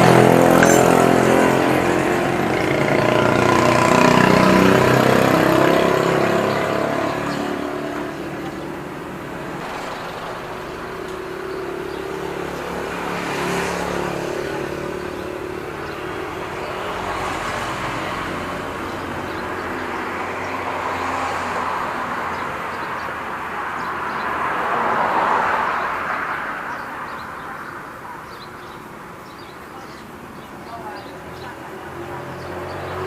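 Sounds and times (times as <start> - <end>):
vehicles passing by: 0.0 - 33.0.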